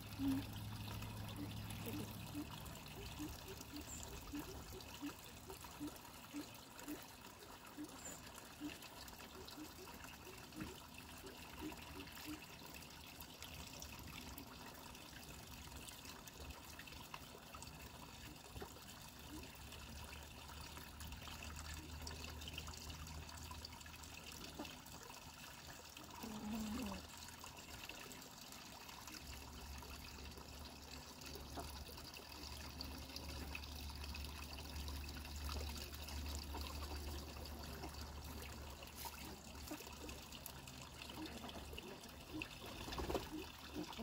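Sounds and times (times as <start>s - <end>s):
water splashing into pond: 0.0s - 44.0s.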